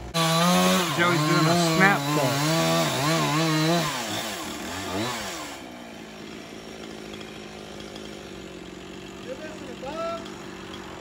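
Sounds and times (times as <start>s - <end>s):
chainsaw revving and idling: 0.0s - 11.0s.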